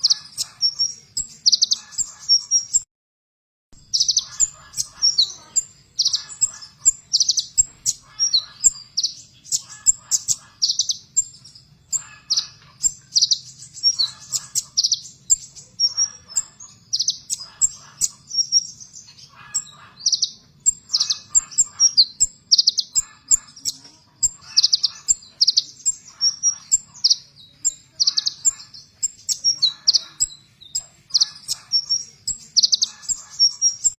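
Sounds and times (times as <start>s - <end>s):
bird singing harsh rapid bursts: 0.0s - 2.9s, 3.8s - 34.0s.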